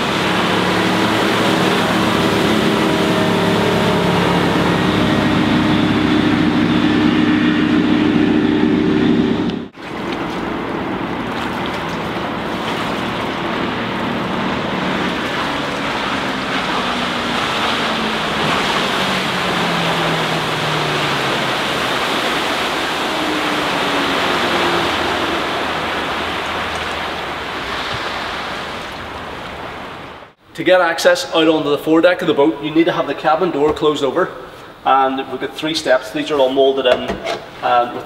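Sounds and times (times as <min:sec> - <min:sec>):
boat engine drone: 0:00.0 - 0:30.5
wind and water rushing: 0:00.0 - 0:38.0.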